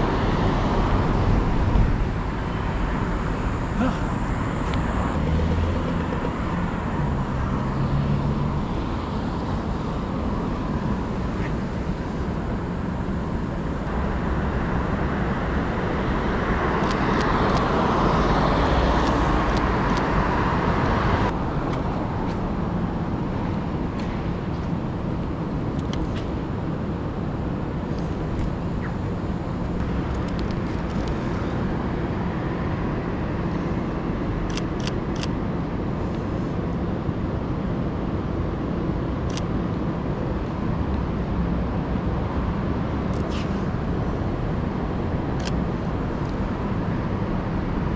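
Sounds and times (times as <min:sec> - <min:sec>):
cars passing: 0:00.0 - 0:47.9.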